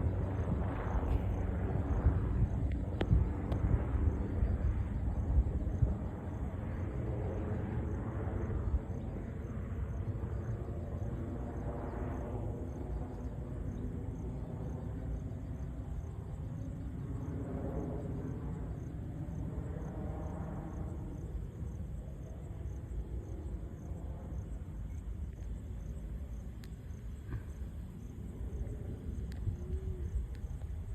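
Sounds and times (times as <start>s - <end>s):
helicopter droning: 0.0s - 30.9s.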